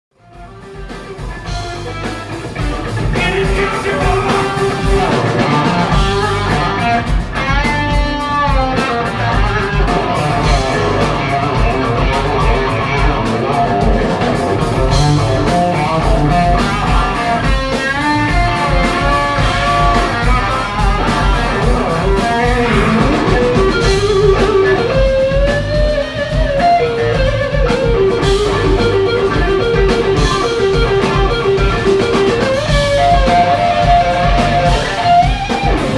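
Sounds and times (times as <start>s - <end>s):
bass guitar: 0.1s - 35.9s
drum kit: 0.1s - 35.9s
electric guitar with bent notes: 0.2s - 35.9s.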